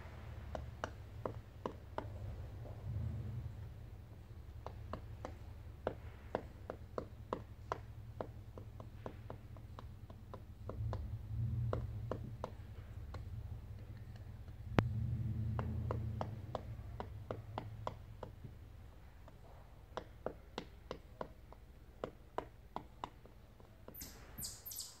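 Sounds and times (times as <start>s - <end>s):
woodpecker pecking wood: 0.0s - 25.0s.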